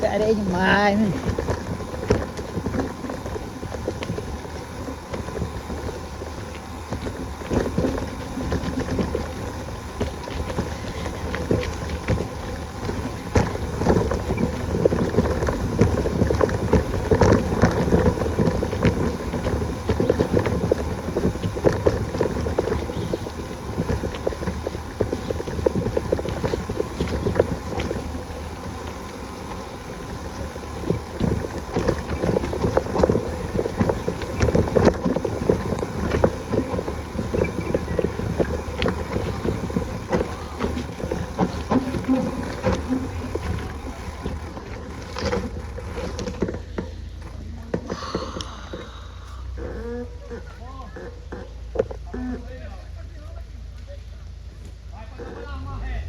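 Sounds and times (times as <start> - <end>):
wind buffeting microphone: 0.0 - 46.4
bicycle rattling on dirt trail: 0.0 - 56.0.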